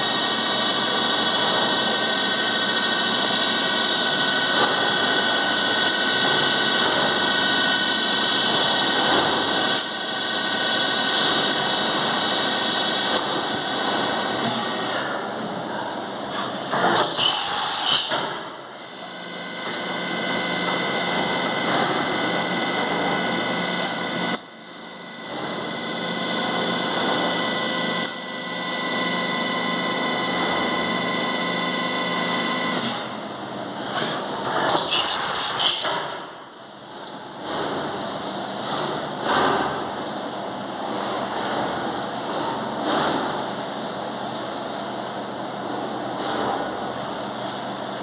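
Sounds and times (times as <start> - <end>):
machine whine: 0.0 - 40.7.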